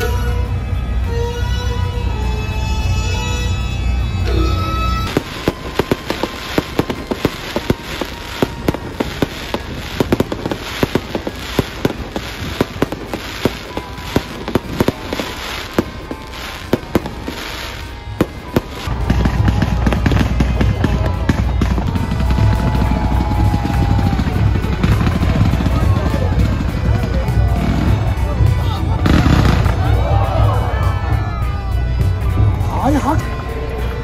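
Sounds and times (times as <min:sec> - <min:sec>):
steady low rumble: 0:00.0 - 0:34.0
fireworks bangs and crackles: 0:05.0 - 0:33.4.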